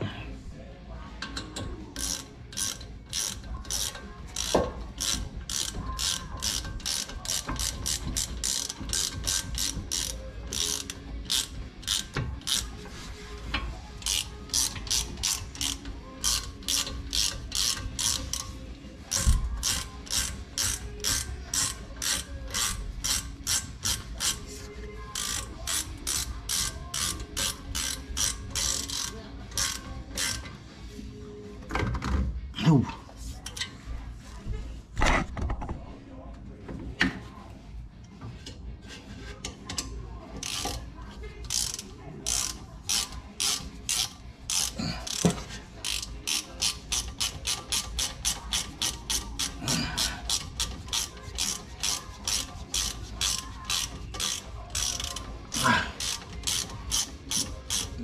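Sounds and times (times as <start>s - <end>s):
ratchet wrench clicking: 1.2s - 12.8s, 13.6s - 30.6s, 39.4s - 58.0s.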